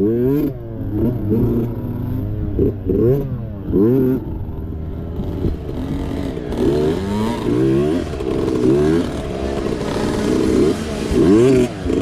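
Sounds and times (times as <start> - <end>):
mini bike engine revving: 0.0 - 12.0.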